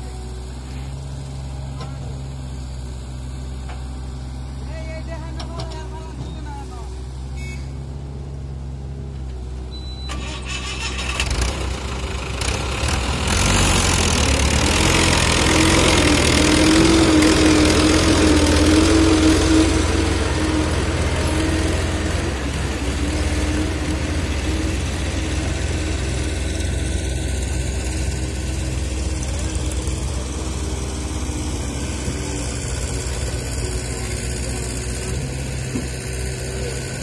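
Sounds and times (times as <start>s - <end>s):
tractor diesel engine labouring: 0.0s - 37.0s.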